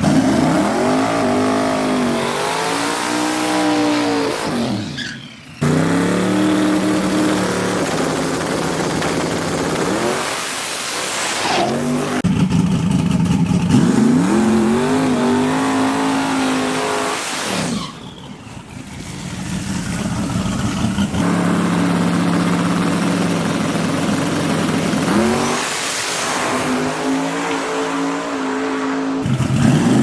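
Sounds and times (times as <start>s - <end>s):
race truck engines revving: 0.0s - 30.0s.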